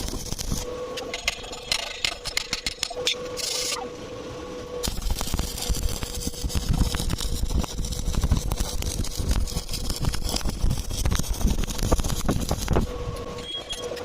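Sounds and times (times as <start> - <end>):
arc welding crackling: 0.0 - 3.9, 4.7 - 14.0.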